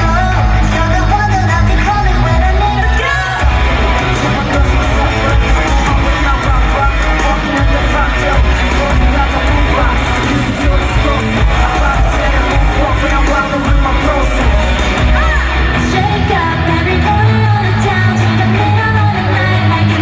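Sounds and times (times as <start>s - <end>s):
live pop music with singing: 0.0s - 20.0s.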